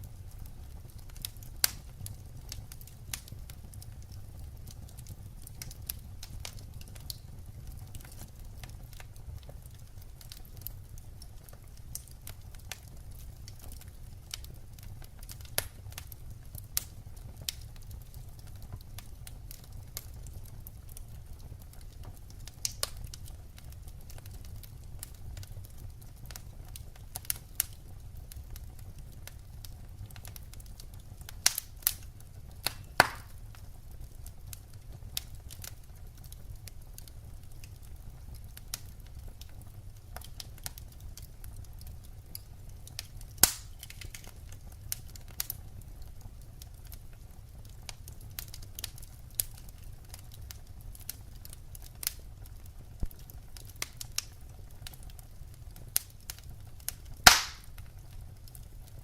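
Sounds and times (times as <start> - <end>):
fire low rumble: 0.0 - 59.0
firewood crackling and popping: 0.0 - 59.0.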